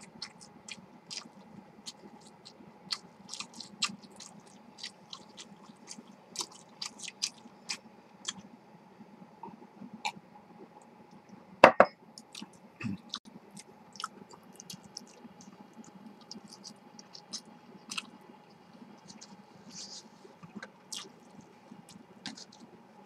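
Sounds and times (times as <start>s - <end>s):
chewing: 0.0s - 8.4s, 12.2s - 22.7s.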